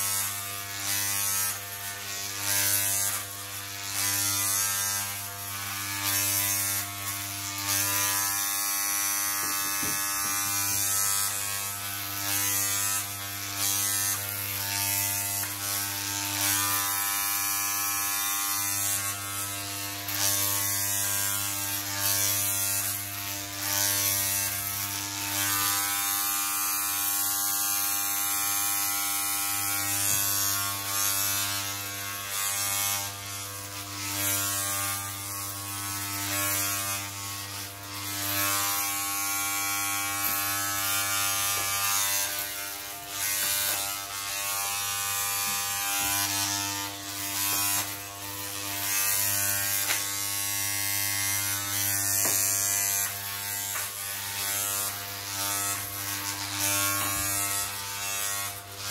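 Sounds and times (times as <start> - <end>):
electric hair clippers buzzing: 0.0 - 58.9.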